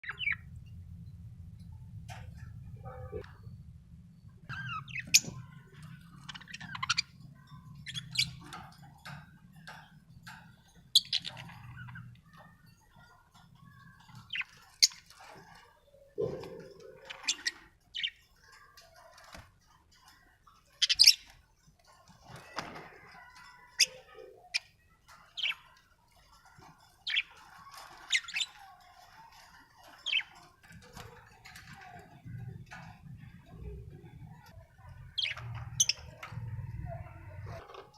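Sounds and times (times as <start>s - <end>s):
budgerigars chirping and chattering: 0.0s - 0.5s, 4.4s - 19.4s, 20.1s - 37.9s.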